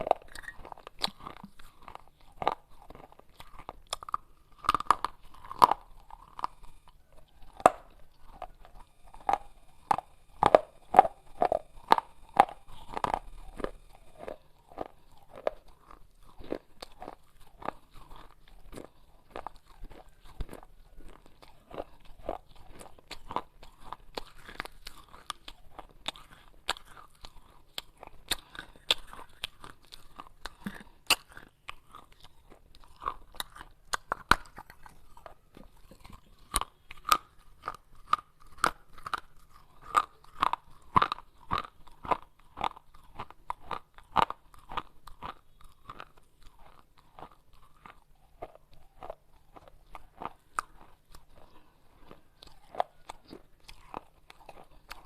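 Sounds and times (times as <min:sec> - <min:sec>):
crunching of chewed clay: 0:00.0 - 0:55.0.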